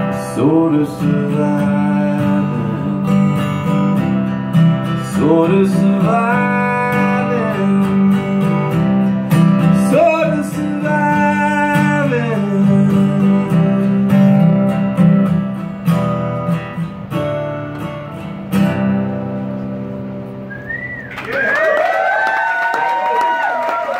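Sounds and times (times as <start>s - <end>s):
acoustic guitar strumming chords: 0.0s - 20.8s.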